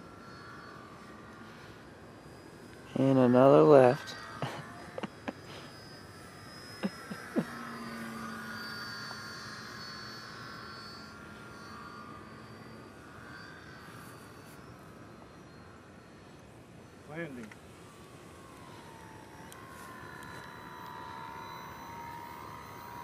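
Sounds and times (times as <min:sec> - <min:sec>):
model airplane motor whining: 0:00.0 - 0:23.0.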